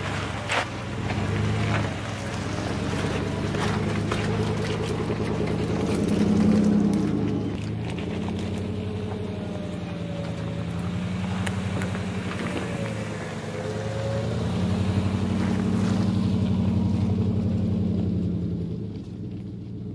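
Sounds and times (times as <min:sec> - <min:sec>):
truck engine running: 0:00.0 - 0:19.9
tyres on gravel: 0:00.0 - 0:19.9.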